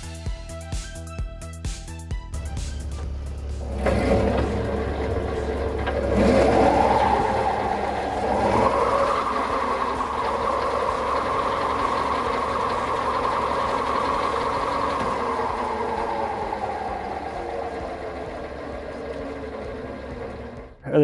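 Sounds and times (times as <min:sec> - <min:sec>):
loader engine running: 0:02.2 - 0:20.8
mower gearbox whine: 0:02.4 - 0:20.8.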